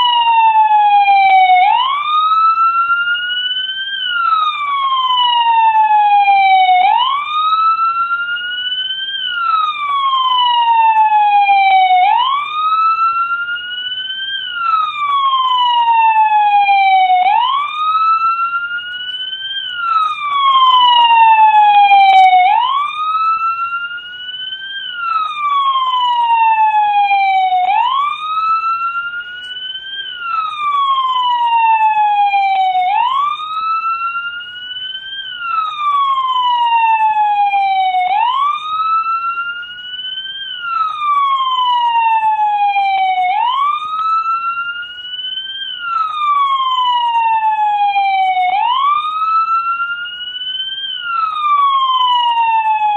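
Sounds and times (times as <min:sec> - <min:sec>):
police siren wailing: 0:00.0 - 0:52.9.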